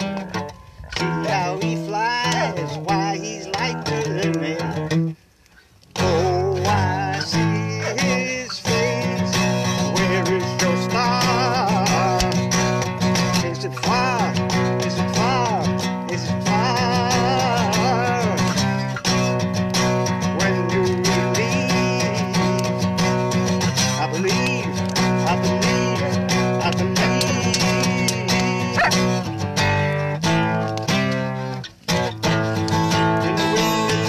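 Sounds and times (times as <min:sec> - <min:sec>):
acoustic guitar strumming: 0:00.0 - 0:34.0
man singing: 0:00.9 - 0:05.2, 0:05.9 - 0:30.7, 0:32.3 - 0:34.0.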